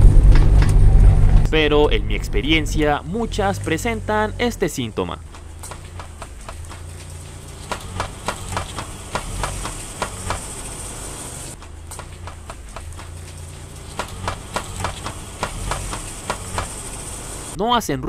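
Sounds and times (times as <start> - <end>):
car engine running low: 0.0 - 17.6.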